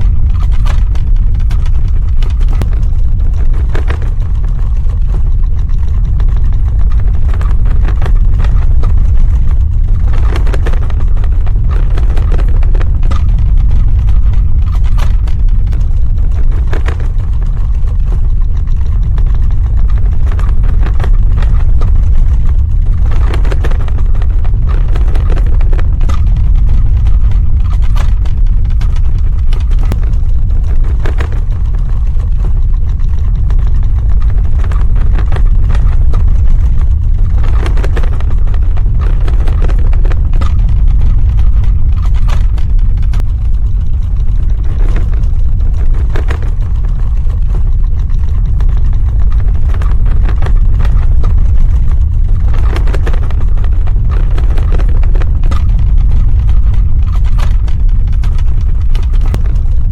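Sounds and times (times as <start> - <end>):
cracking and rattling: 0.0 - 59.9
deep earthquake rumble: 0.0 - 59.9.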